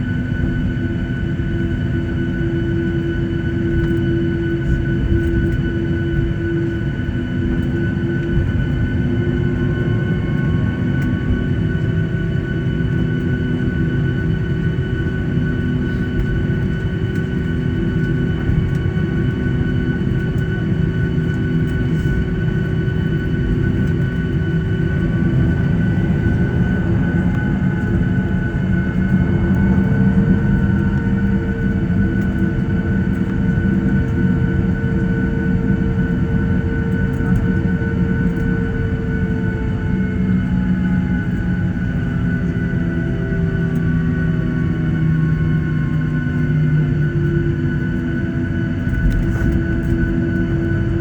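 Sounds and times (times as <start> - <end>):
jet engines heard from cabin: 0.0 - 51.0.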